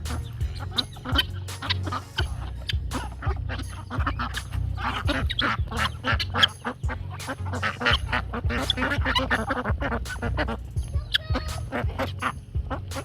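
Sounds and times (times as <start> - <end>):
background music with bass: 0.0 - 13.0
poultry calling: 0.0 - 13.0.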